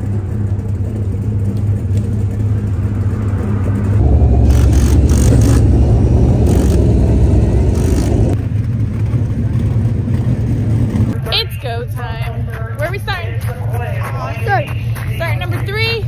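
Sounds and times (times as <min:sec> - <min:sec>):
race car engines rumbling: 0:00.0 - 0:16.0.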